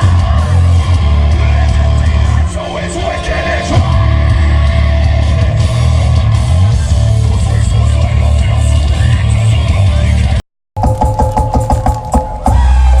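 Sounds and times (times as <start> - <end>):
heavy booming bass: 0.0 - 13.0
loud music with guitar: 0.0 - 13.0.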